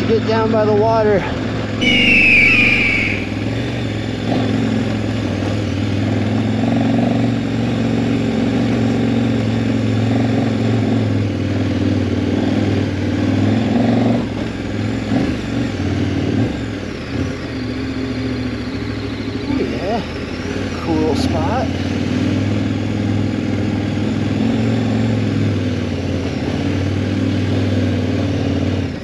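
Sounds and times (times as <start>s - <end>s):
motorcycle engine running: 2.8s - 29.0s.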